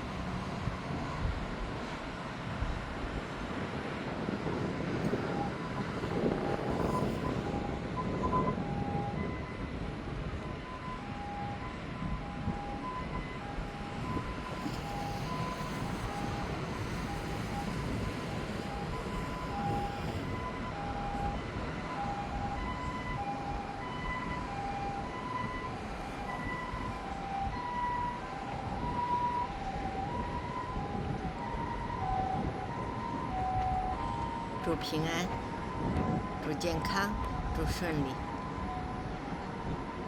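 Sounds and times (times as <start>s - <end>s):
distant two-tone ambulance siren: 0.0s - 40.0s.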